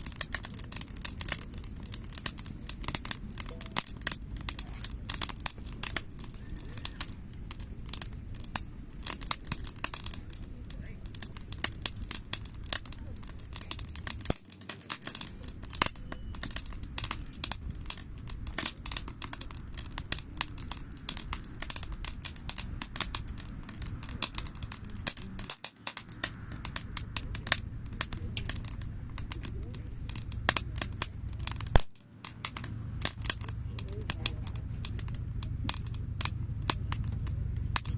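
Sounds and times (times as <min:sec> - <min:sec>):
campfire crackling: 0:00.0 - 0:37.9.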